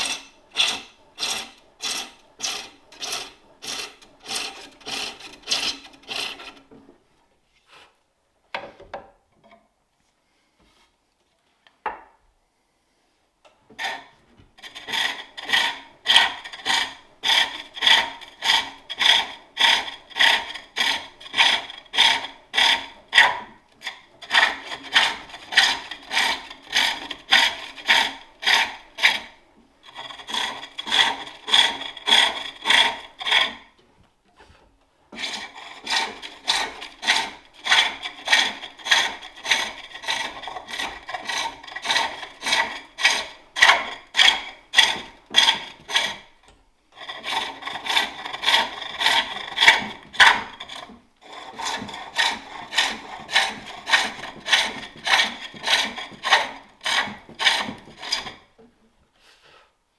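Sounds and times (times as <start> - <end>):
lathe tool scraping wood: 0.0 - 6.8, 13.8 - 33.8, 34.4 - 46.4, 47.0 - 58.5.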